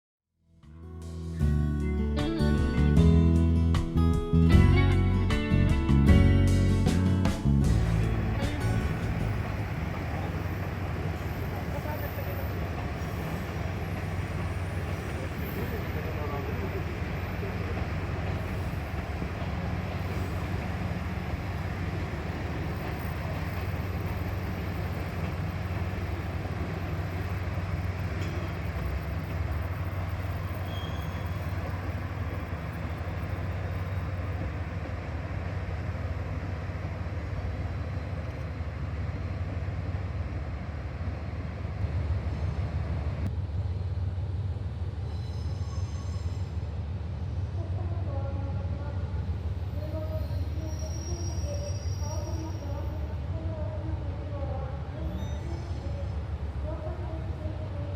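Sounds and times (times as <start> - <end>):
diesel railcar engines running: 1.0 - 57.9.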